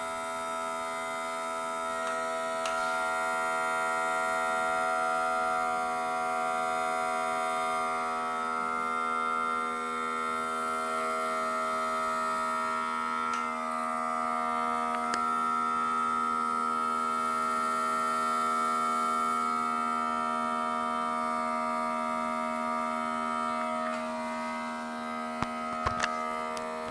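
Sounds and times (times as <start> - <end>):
electric air pump humming: 0.0 - 26.9.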